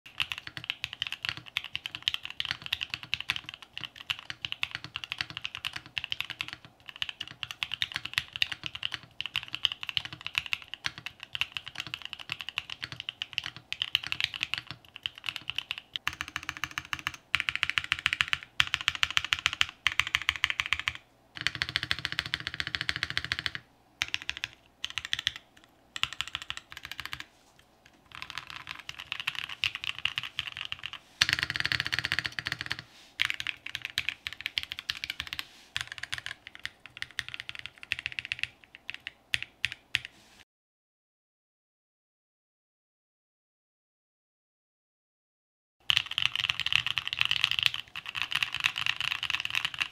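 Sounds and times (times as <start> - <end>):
mechanical keyboard typing: 0.1 - 40.1, 45.8 - 49.9.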